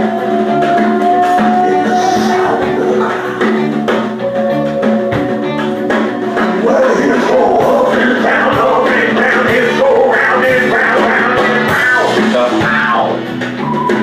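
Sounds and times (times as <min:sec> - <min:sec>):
rock band music with guitar: 0:00.0 - 0:14.0.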